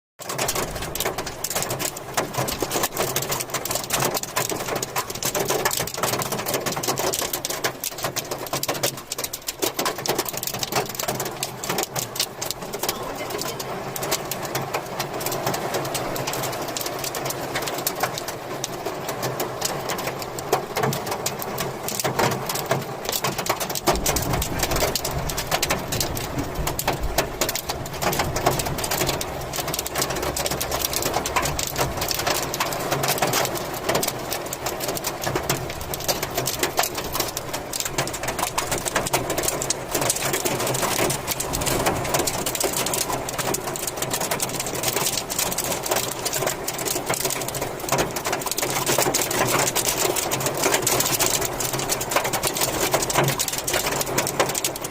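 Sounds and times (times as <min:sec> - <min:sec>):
rain and hail drumming: 0:00.2 - 0:54.9.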